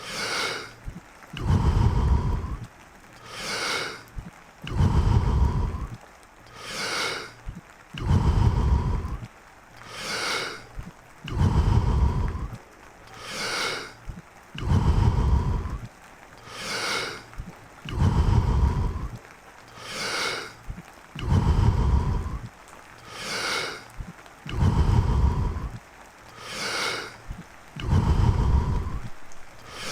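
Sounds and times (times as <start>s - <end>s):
man breathing deeply and forcefully: 0.0s - 6.0s, 6.6s - 29.9s.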